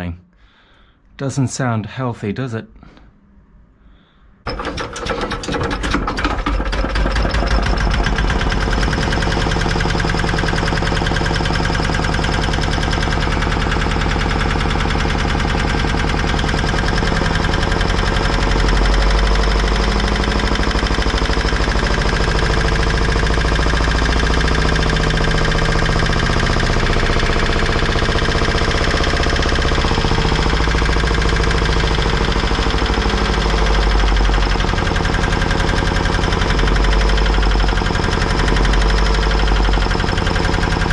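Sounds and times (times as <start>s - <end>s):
diesel generator rattling: 4.5s - 40.9s.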